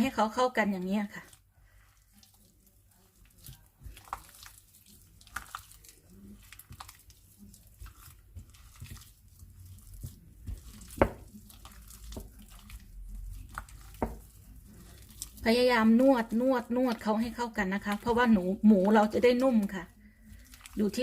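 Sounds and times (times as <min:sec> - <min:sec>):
hands kneading meat: 0:00.0 - 0:21.0
wet squelches and slaps: 0:03.2 - 0:21.0.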